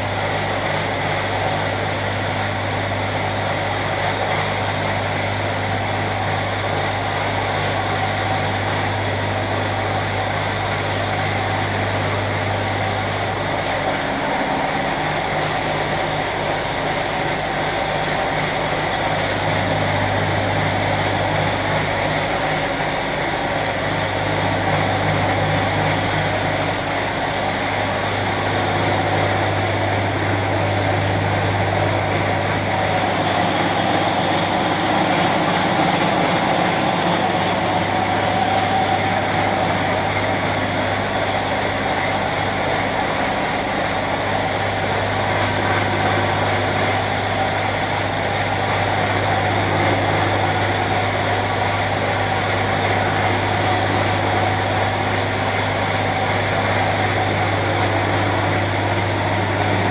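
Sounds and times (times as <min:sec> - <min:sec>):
machine humming and hissing: 0:00.0 - 0:59.9.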